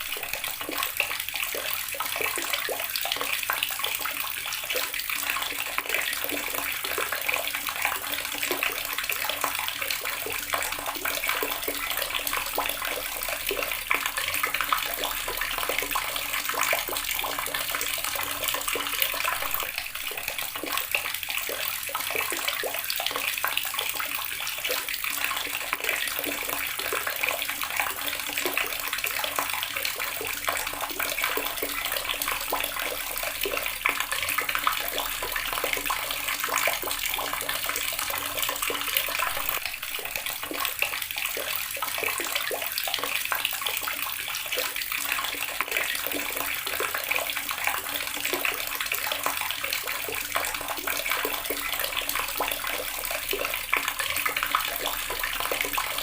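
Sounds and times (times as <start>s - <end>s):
tap water splashing into basin: 0.0s - 56.0s.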